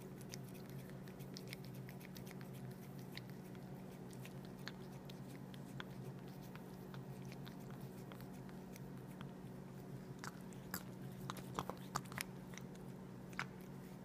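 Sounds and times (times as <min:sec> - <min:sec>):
cat licking: 0:00.0 - 0:14.0
steady low hum: 0:00.0 - 0:14.0.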